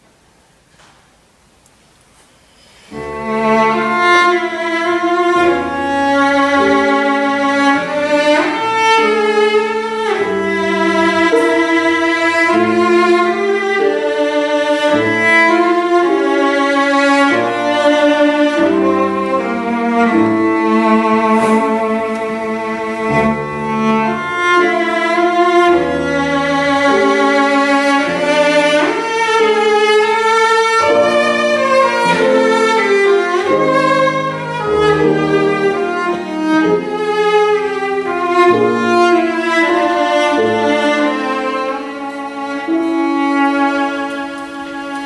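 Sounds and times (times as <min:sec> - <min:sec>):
cello melody: 0:02.6 - 0:45.0
piano accompaniment: 0:02.6 - 0:45.0.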